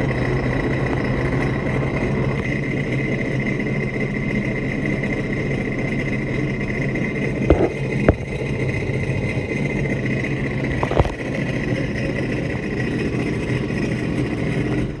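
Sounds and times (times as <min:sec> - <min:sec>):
watercraft engine idling: 0:00.0 - 0:15.0.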